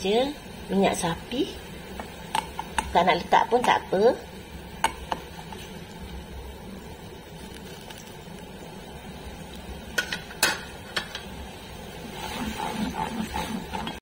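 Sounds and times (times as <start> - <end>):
oil sizzling and bubbling: 0.0 - 14.0.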